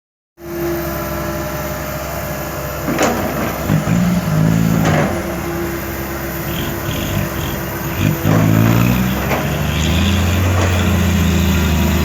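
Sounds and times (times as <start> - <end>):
heavy diesel engine running: 0.8 - 12.0.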